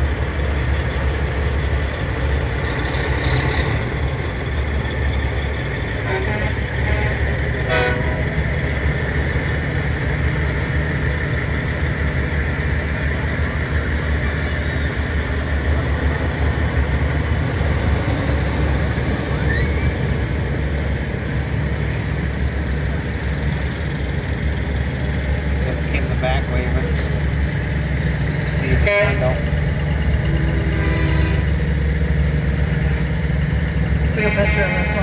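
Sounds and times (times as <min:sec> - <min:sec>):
diesel truck engines rumbling: 0:00.0 - 0:35.0.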